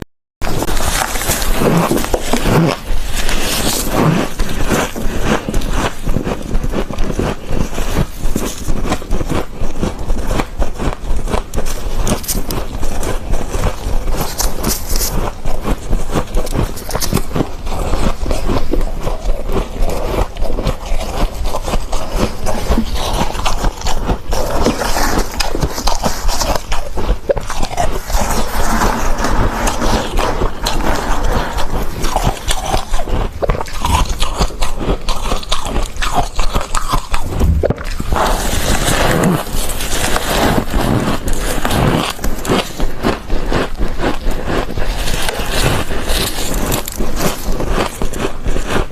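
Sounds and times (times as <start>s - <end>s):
frost crunching in the mouth: 0.4s - 48.9s.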